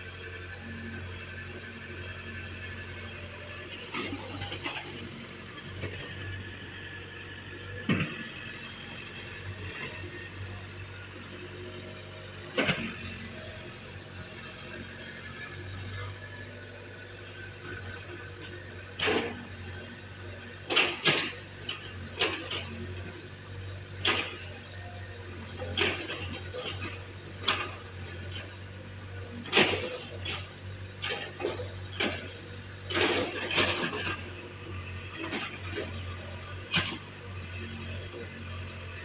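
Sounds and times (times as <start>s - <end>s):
excavator engine humming: 0.0s - 39.0s.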